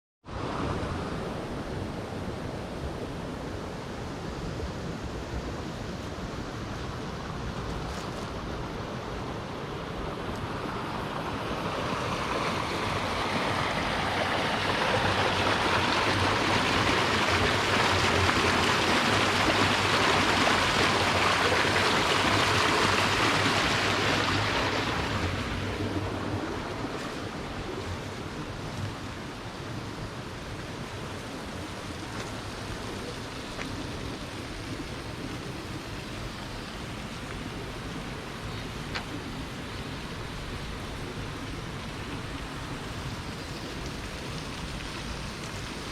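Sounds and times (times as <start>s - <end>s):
river water rushing: 0.3s - 45.9s.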